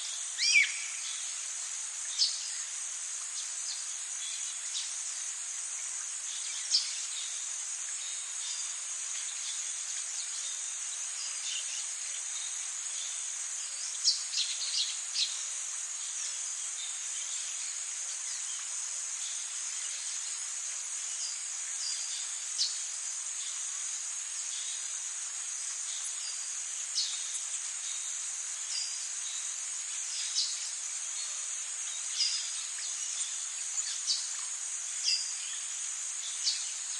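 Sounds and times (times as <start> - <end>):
insect chirps: 0.0 - 36.9
insect chorus trilling: 0.0 - 36.9.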